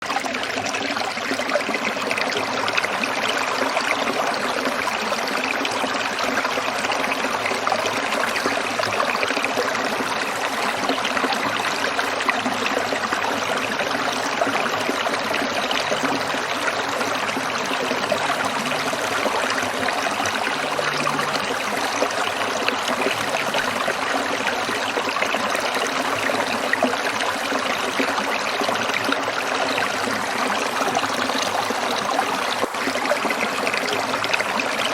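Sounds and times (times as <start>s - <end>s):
stream trickling over stones: 0.0s - 34.9s.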